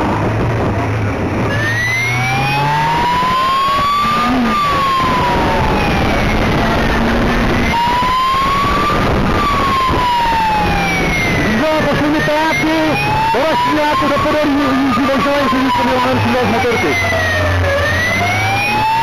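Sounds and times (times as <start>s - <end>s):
road noise: 0.0s - 19.0s
wail siren: 1.5s - 19.0s.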